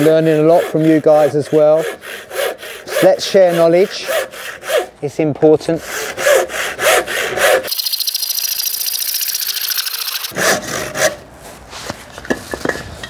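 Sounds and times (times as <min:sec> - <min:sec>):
handsaw cutting timber: 0:00.0 - 0:09.0, 0:09.8 - 0:11.2.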